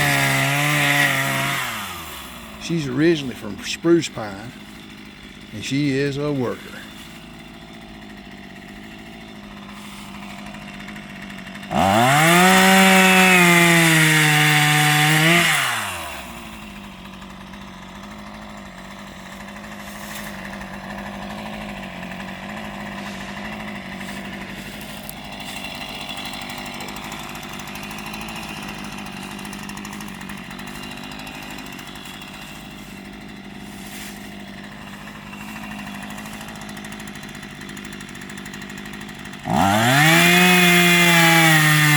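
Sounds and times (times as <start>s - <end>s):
chainsaw idling and revving: 0.0s - 41.9s.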